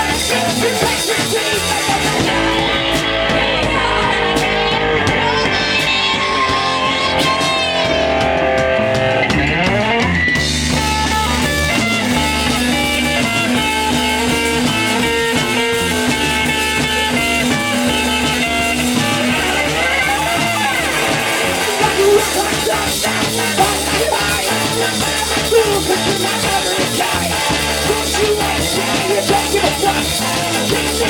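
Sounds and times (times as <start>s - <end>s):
punk rock band playing: 0.0s - 31.0s.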